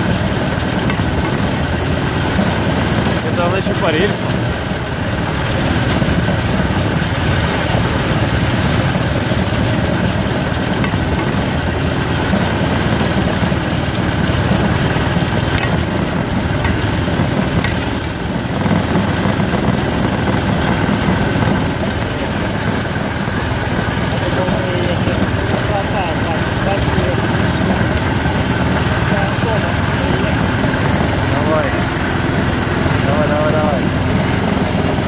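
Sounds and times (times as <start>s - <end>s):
rail trolley engine running: 0.0s - 35.0s.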